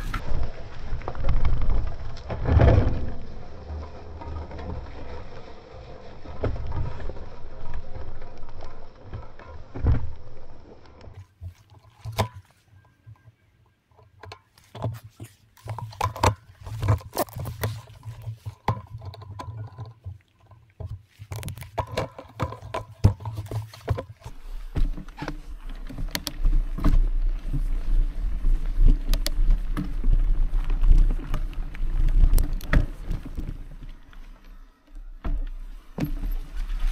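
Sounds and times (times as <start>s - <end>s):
bike clicking and rattling: 0.0s - 36.9s.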